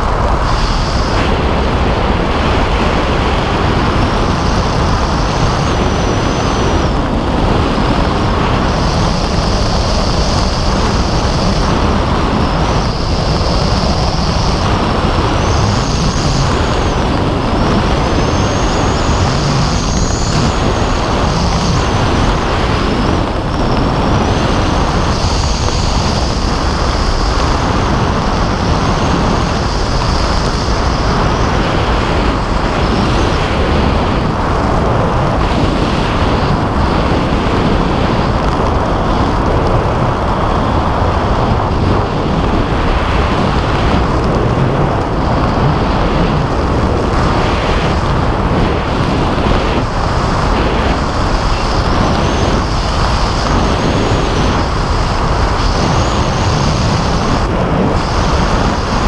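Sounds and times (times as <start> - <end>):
airy hiss: 0.0 - 59.0
wind rushing over microphone: 0.0 - 59.0.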